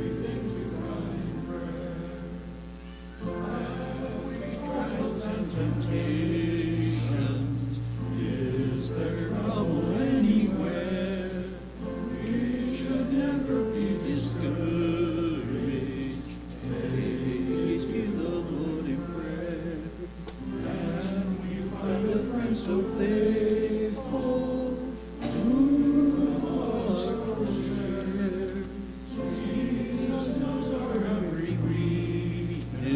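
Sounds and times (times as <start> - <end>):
congregation singing a hymn: 0.0 - 32.9
low held accompaniment notes: 0.0 - 32.9.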